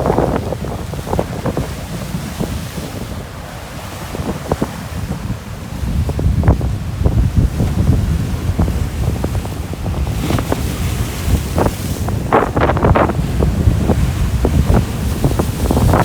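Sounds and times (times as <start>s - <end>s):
rough surf: 0.0s - 16.0s
wind buffeting microphone: 0.0s - 16.0s.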